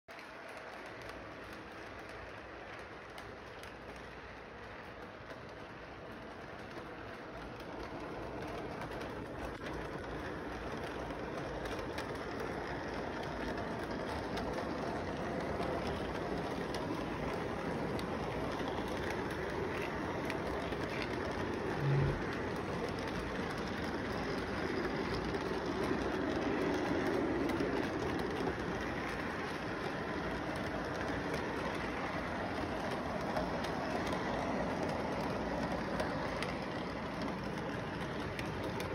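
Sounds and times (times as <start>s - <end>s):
model train rolling on track: 0.1s - 38.9s.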